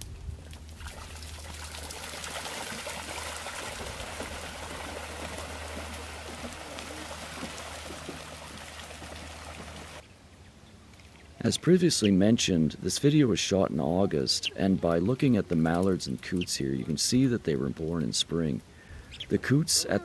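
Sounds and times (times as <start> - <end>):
water trickling through marsh: 0.0 - 10.0, 12.9 - 19.6.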